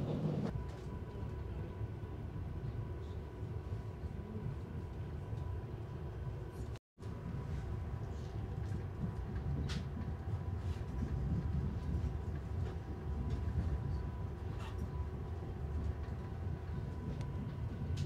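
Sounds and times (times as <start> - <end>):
passenger train rumble: 0.0 - 18.0.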